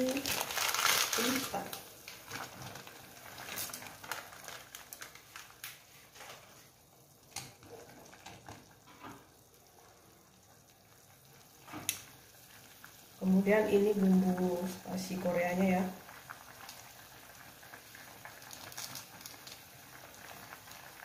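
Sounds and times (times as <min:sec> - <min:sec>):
water boiling in a pot: 0:00.0 - 0:21.0.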